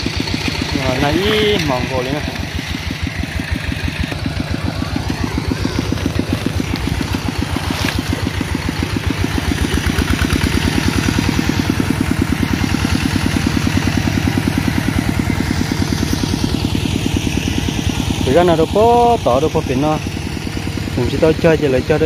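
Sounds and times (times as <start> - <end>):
small engine puttering: 0.0 - 22.0.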